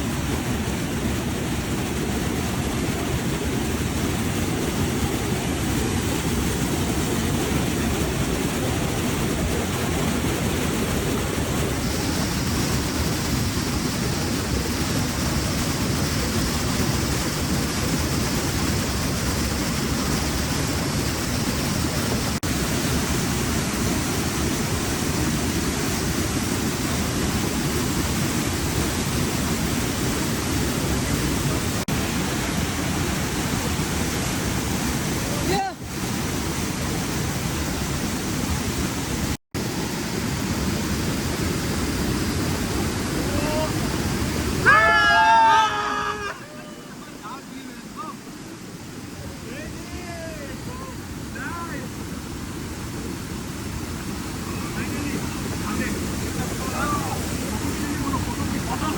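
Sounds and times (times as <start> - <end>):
fast-flowing stream water: 0.0 - 58.9
heavy rain: 0.0 - 58.9.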